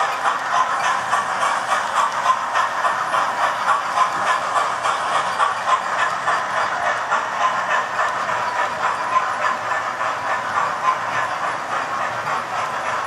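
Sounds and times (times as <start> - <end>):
model train wheels rattling: 0.0 - 13.0
regular clicking of train: 0.0 - 13.0.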